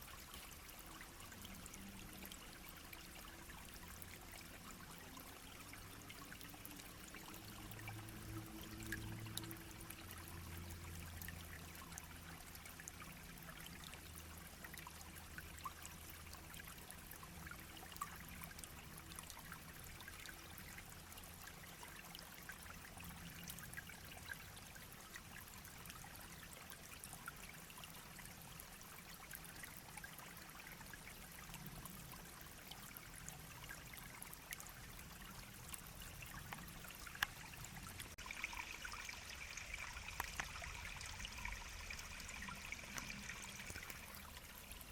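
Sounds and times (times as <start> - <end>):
babbling brook: 0.0 - 44.9.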